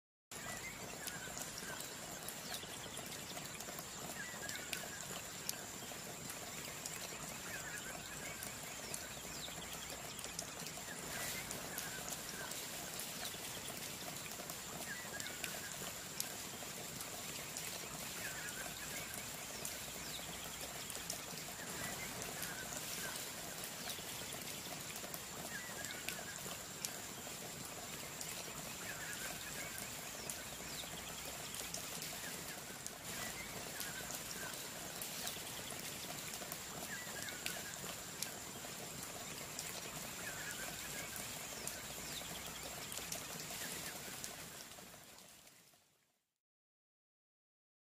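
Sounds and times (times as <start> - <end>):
water-like hiss: 0.4 - 45.9.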